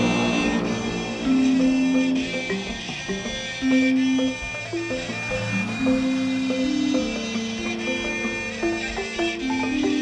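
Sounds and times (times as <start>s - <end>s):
gamelan music: 0.0s - 10.0s.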